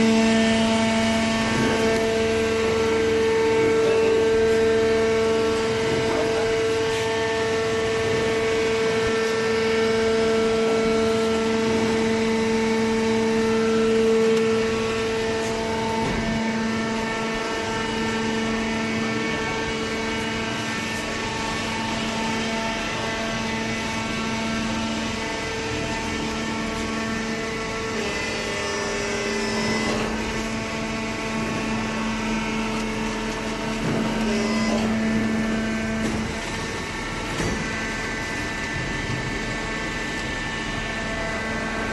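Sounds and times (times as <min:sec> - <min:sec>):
electric motor and pump humming: 0:00.0 - 0:41.9.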